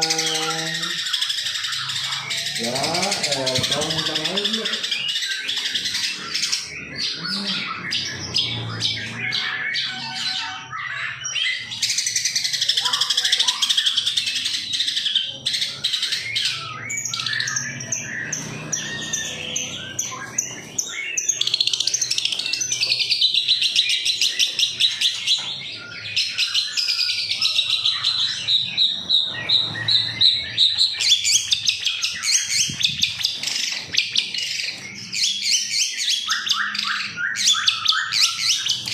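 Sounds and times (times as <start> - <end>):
shrike singing chattering song: 0.0 - 38.9.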